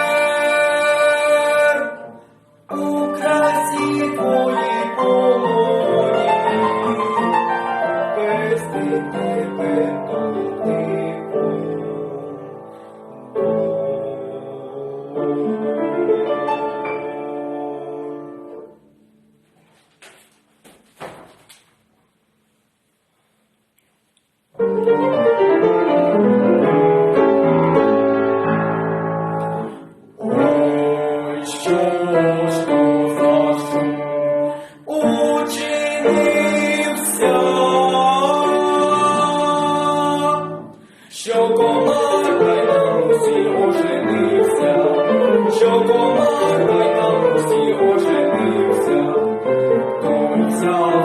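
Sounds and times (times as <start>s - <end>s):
instrumental music with piano: 0.0s - 22.2s, 24.4s - 51.0s.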